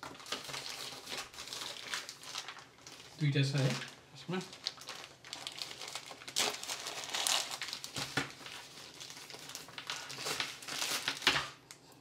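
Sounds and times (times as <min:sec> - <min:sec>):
packaging crinkling and rustling: 0:00.0 - 0:11.8.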